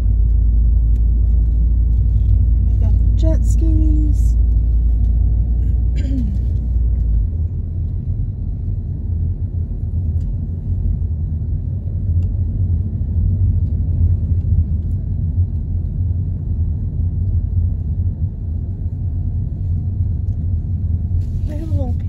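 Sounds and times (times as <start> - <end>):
car engine rumbling inside cabin: 0.0 - 22.0.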